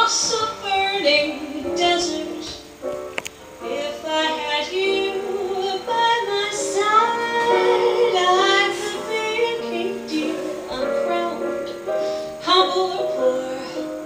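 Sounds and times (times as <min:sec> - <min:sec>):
song with singing and instruments: 0:00.0 - 0:14.0.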